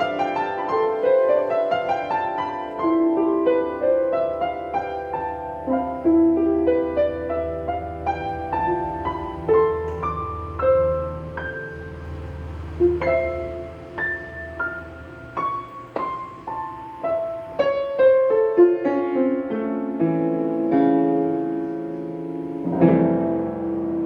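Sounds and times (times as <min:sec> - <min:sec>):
solo piano improvisation: 0:00.0 - 0:24.0.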